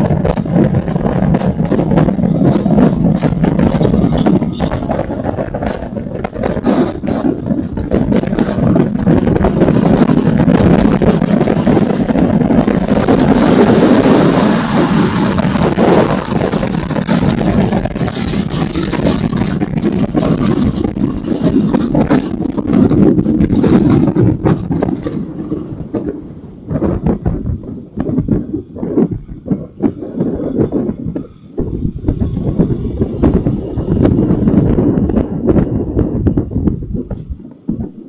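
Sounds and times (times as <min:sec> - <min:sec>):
motorcycle engine running loudly: 0:00.0 - 0:28.5, 0:29.1 - 0:37.9.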